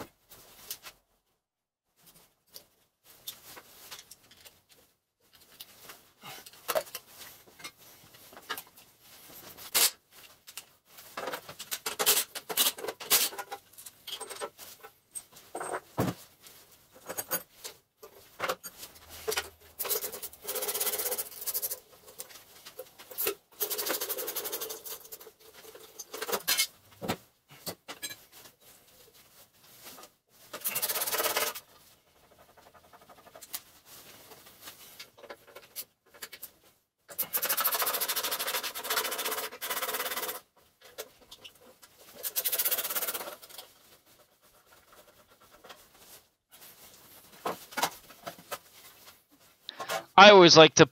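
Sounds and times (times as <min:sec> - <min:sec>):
rustling and scraping: 0:00.1 - 0:50.2.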